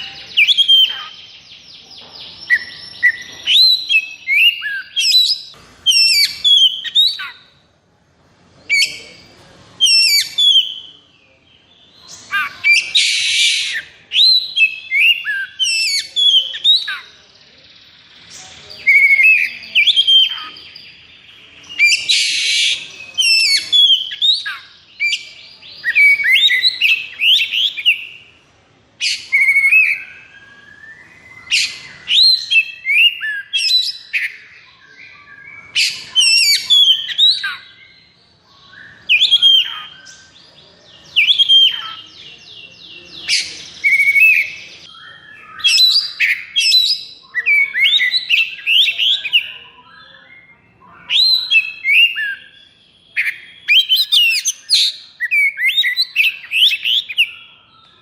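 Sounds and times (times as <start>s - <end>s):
songbird whistling and trilling: 0.0s - 7.5s, 9.8s - 11.0s, 11.9s - 17.2s, 18.3s - 28.3s, 29.0s - 58.0s.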